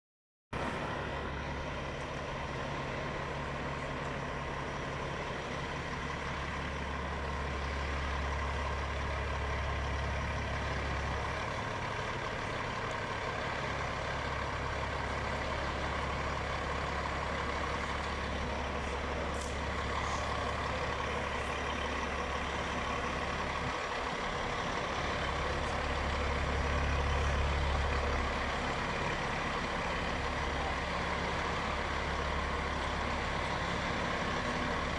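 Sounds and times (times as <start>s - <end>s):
truck diesel engine droning: 0.6s - 34.9s.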